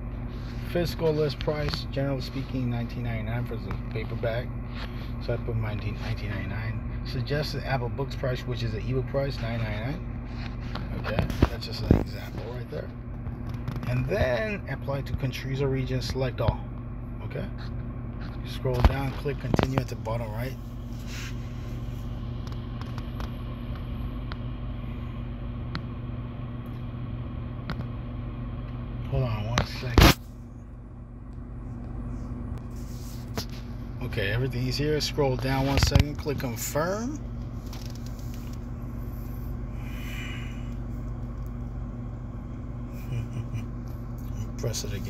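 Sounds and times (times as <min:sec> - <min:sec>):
car engine hum in cabin: 0:00.0 - 0:45.0.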